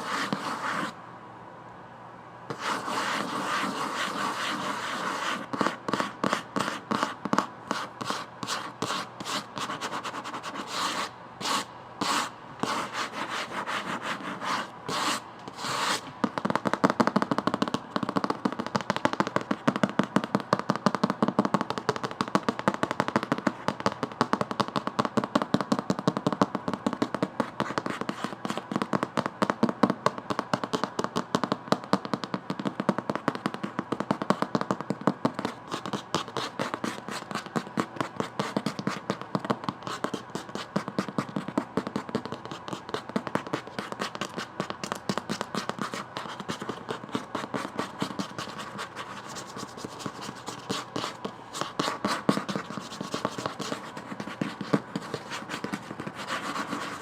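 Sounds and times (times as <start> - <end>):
fast tapping on a book: 2.5 - 57.0.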